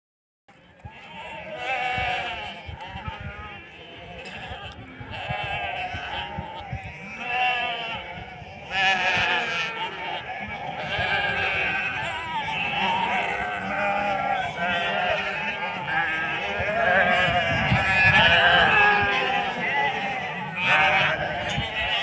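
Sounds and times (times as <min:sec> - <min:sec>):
sheep bleating: 0:00.7 - 0:22.0.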